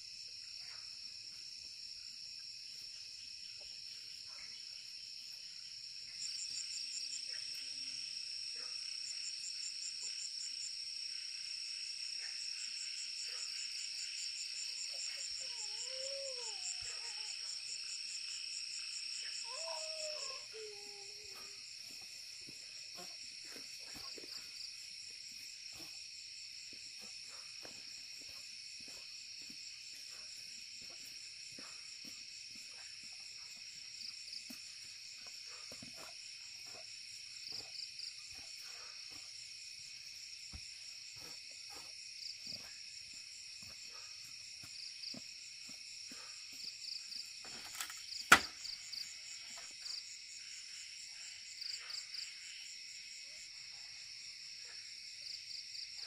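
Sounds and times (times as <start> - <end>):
crickets and insects chorus: 0.0 - 56.0.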